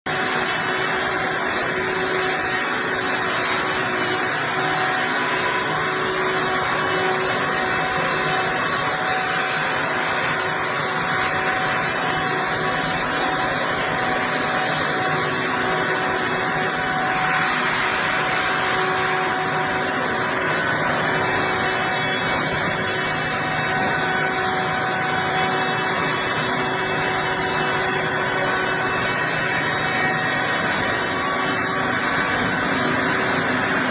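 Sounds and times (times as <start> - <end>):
chainsaw running: 0.1 - 33.9.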